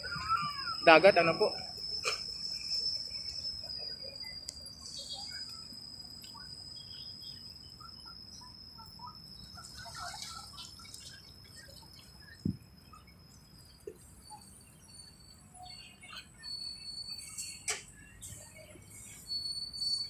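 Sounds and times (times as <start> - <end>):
steady high-pitched whine: 0.0 - 20.0
small bird chirps: 1.9 - 20.0.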